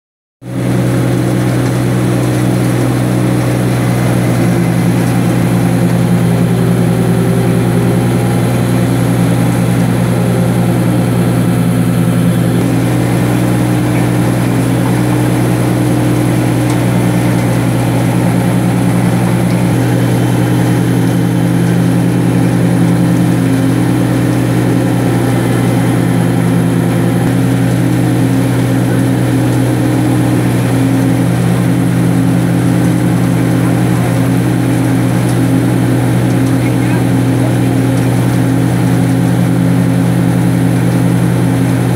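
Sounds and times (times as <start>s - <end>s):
loud machine drone: 0.4s - 41.9s.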